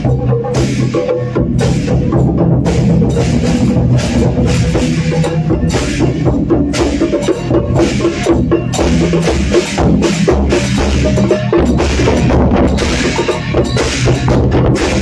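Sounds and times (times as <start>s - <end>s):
crashing cymbals: 0.0s - 15.0s
deep drum strokes: 0.0s - 15.0s.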